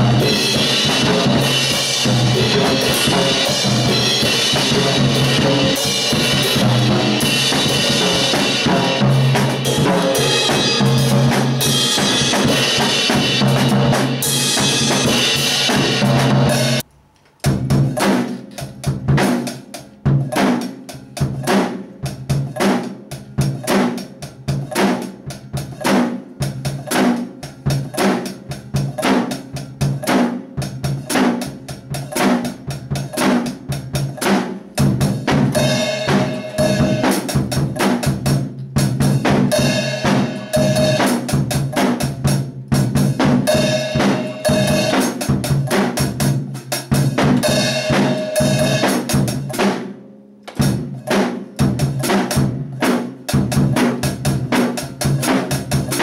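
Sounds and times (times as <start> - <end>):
acoustic drum kit beat: 0.0 - 56.0.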